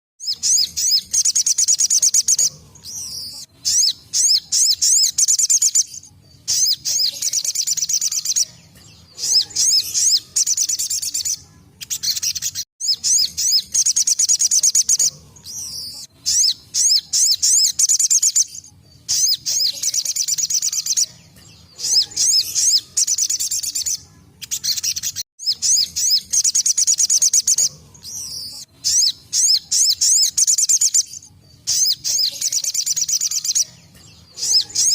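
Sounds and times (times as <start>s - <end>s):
bird high-pitched trilling song: 0.2s - 34.9s.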